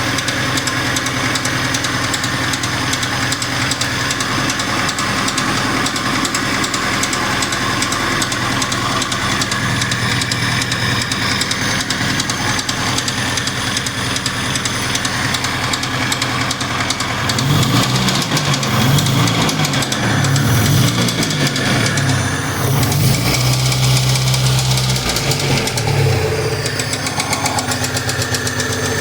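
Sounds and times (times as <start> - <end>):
engine with metallic knock: 0.0 - 29.0.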